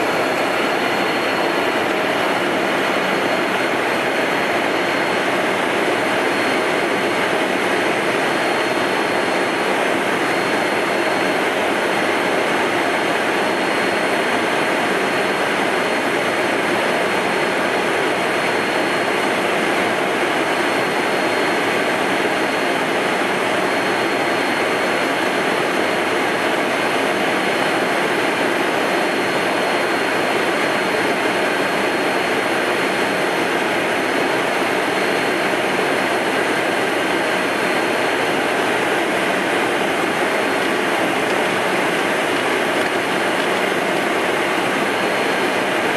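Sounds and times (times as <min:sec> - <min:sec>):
faint high whine: 0:00.0 - 0:45.9
jet engines in cockpit: 0:00.0 - 0:45.9.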